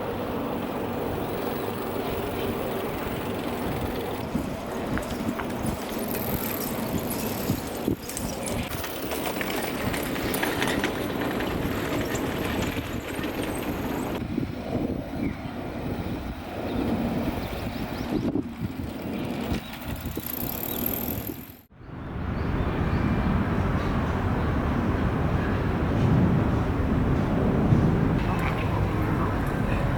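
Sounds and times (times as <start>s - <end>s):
city traffic noise: 0.0s - 29.9s.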